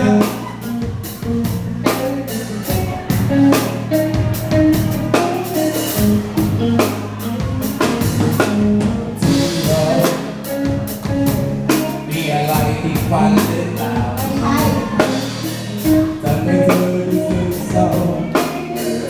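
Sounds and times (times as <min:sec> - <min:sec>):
drum kit steady beat: 0:00.0 - 0:19.0
pop band playing instrumental: 0:00.0 - 0:19.0
sustained bass notes: 0:00.0 - 0:19.0.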